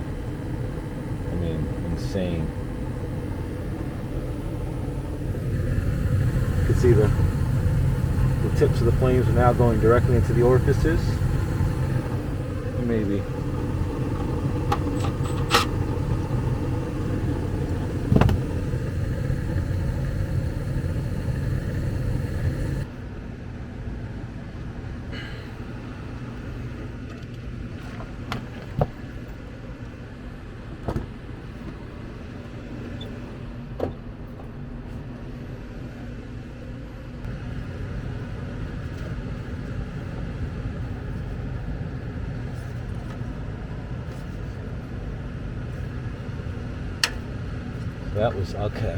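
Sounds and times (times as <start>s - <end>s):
gas furnace rumble: 0.0s - 48.9s.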